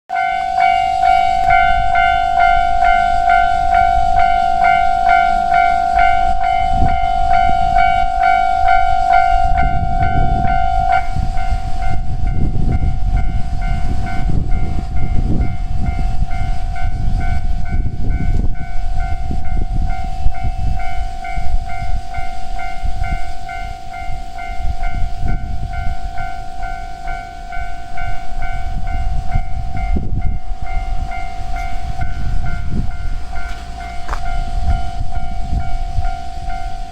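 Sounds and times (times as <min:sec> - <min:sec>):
level-crossing alarm bell: 0:00.1 - 0:36.9
train rumbling: 0:00.1 - 0:36.9.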